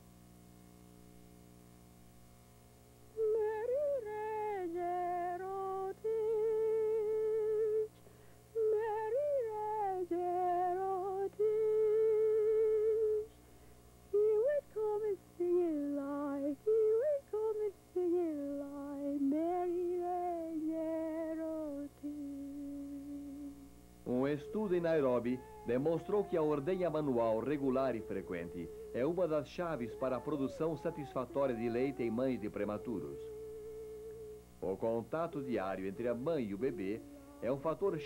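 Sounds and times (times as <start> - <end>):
woman humming: 3.2 - 8.0, 8.6 - 13.4, 14.1 - 38.0.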